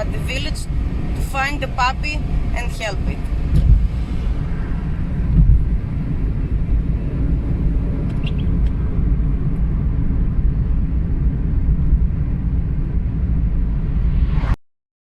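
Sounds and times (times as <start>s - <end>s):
engine and road noise rumble: 0.0s - 14.6s.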